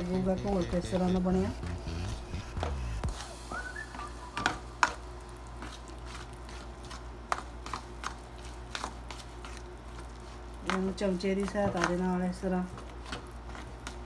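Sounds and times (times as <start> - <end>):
low steady hum: 0.0 - 14.0
batter squelching: 0.7 - 14.0.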